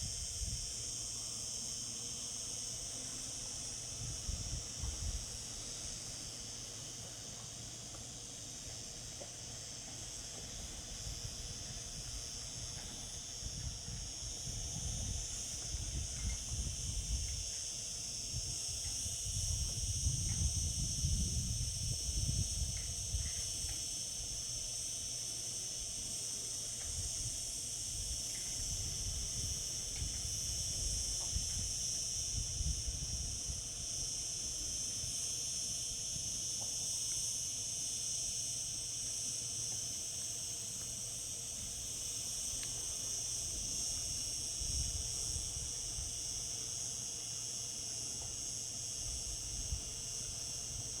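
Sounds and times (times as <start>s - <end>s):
cicadas droning: 0.0s - 51.0s.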